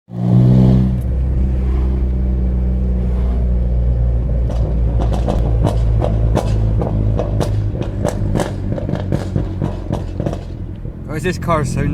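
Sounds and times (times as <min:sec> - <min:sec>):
car engine burbling: 0:00.1 - 0:11.9
exhaust crackles and pops: 0:00.1 - 0:11.9.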